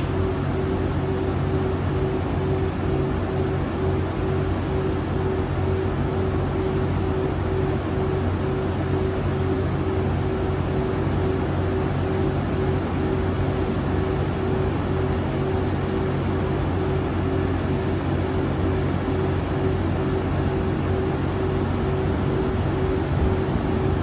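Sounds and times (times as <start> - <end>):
electric locomotive equipment drone: 0.0 - 24.0.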